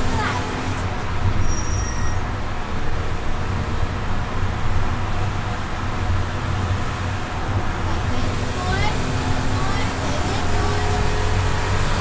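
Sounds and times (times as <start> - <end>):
car engine running steadily: 0.0 - 1.4, 2.4 - 12.0
road and tyre noise: 0.0 - 12.0.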